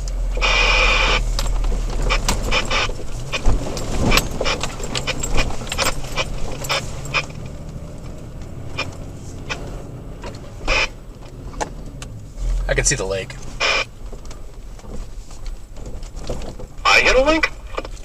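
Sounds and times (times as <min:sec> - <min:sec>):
engine and road hum: 0:00.0 - 0:18.0
truck rattles and knocks: 0:01.2 - 0:18.0.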